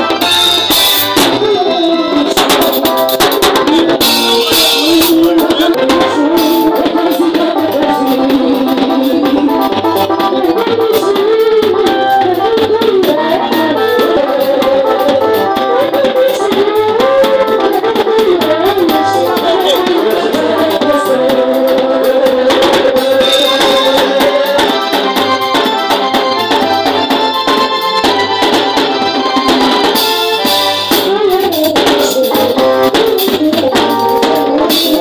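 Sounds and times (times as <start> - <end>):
drum kit with cymbal beat: 0.0 - 35.0
electric bass guitar: 0.0 - 35.0
keyboard sliding melody: 0.0 - 35.0.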